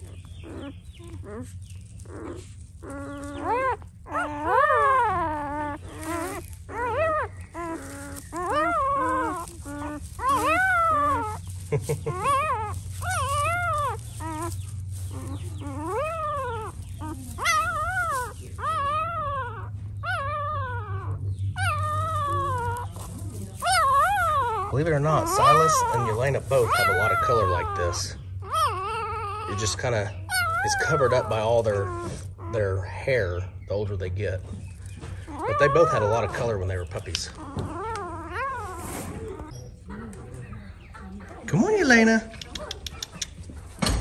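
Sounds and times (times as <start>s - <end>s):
puppies crying and whimpering: 0.0s - 44.0s.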